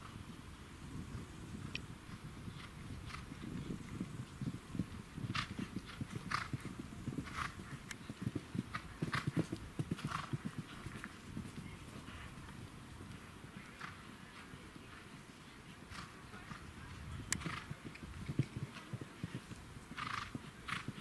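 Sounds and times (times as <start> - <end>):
horse hooves thudding on grass: 1.0 - 15.1, 15.9 - 21.0.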